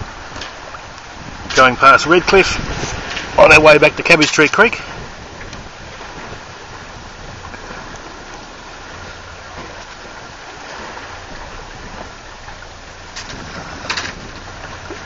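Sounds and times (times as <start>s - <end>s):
water rushing along boat hulls: 0.0s - 15.0s.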